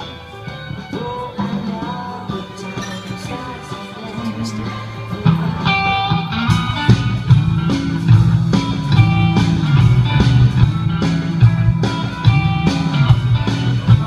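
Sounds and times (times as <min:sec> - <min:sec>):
drums: 0:00.0 - 0:14.0
electric guitar riff: 0:02.3 - 0:14.0
bass line: 0:02.7 - 0:14.0.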